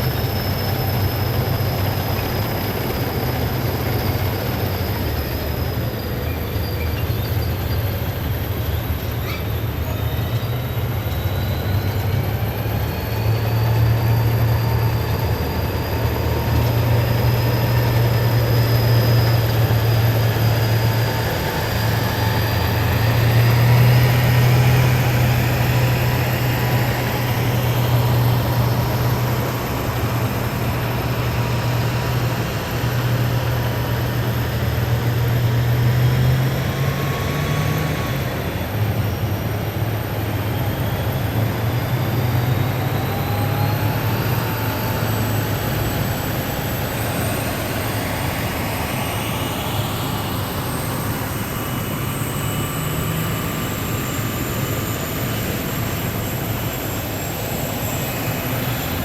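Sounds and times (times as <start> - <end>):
military vehicles engine drone: 0.0 - 59.0
whining tones gliding: 0.0 - 59.0.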